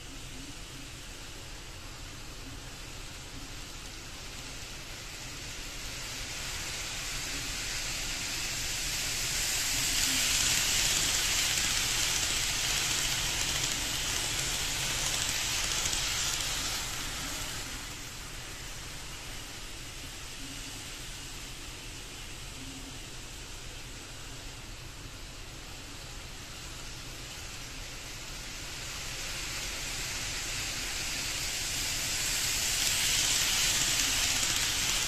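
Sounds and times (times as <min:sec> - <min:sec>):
low background hiss: 0:00.0 - 0:35.0
model train running on track: 0:00.0 - 0:35.0.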